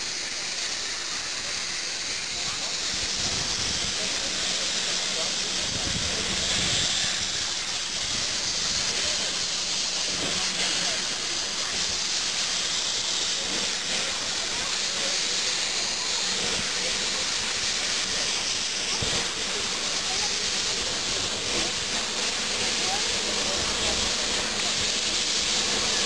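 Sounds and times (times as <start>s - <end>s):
steam hissing from locomotive: 0.0s - 26.0s.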